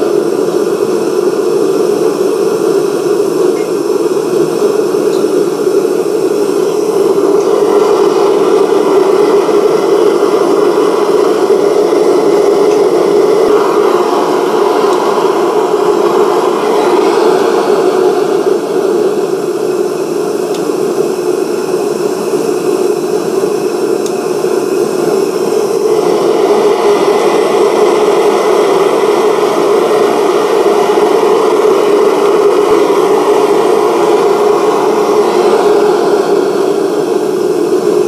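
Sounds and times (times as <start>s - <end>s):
kiln roaring: 0.0s - 38.0s.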